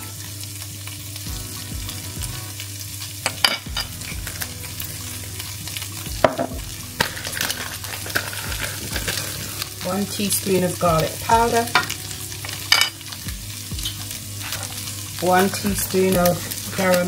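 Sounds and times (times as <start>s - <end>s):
chickpeas sizzling in oil: 0.0s - 17.0s.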